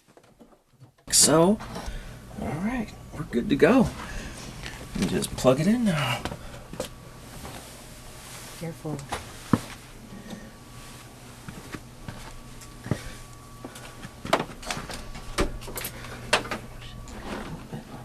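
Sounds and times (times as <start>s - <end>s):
steady low hum: 0.4s - 18.0s.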